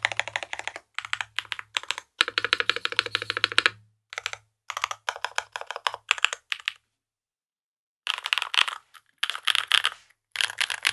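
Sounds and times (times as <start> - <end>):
mechanical keyboard typing: 0.0 - 6.8, 8.1 - 10.9.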